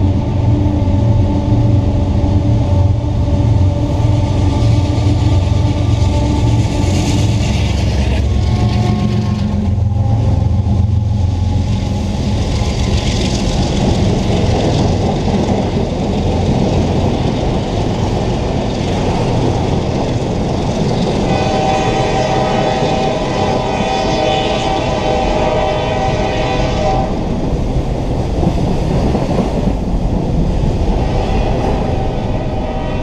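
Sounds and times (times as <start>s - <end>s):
diesel locomotive engine rumble: 0.0s - 33.0s
train wheels rolling on rail: 0.0s - 33.0s.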